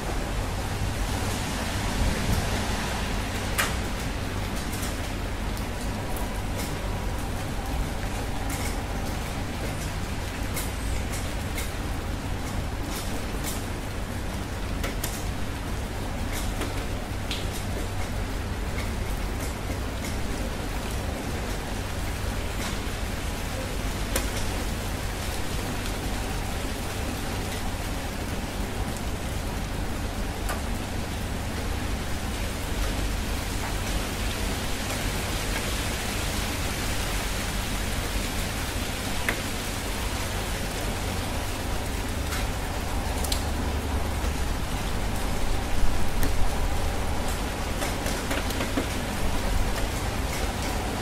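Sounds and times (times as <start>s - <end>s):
steady rain falling: 0.0s - 51.0s
raindrop ticks: 3.2s - 37.2s, 38.9s - 51.0s.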